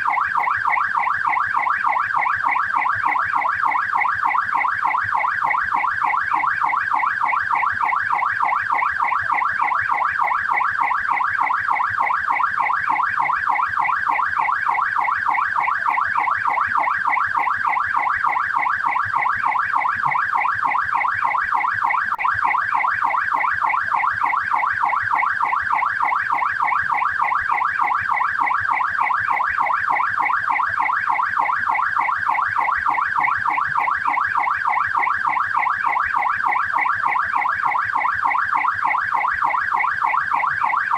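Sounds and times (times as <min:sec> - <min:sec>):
police car yelp siren: 0:00.0 - 0:40.9.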